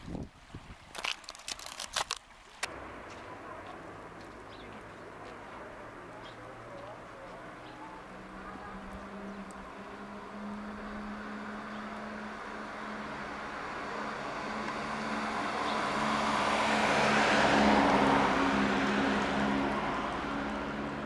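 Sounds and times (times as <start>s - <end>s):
car passing by: 2.7s - 21.0s.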